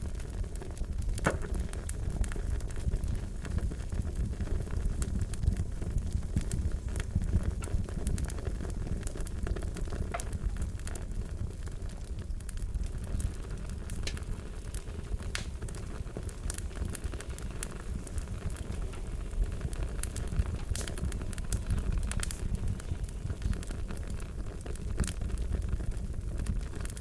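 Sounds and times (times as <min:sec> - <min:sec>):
fire crackling and popping: 0:00.0 - 0:27.0
wood fire roaring: 0:00.0 - 0:27.0.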